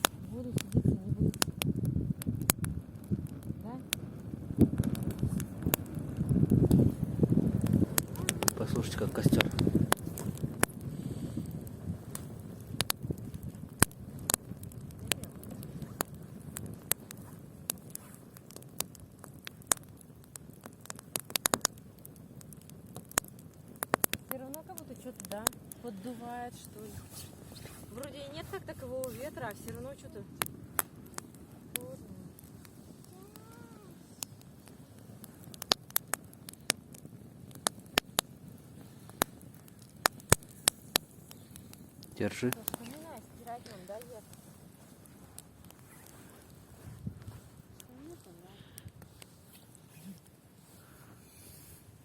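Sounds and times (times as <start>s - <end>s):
bonfire crackling and popping: 0.0s - 52.0s
faint low hiss: 0.0s - 52.0s.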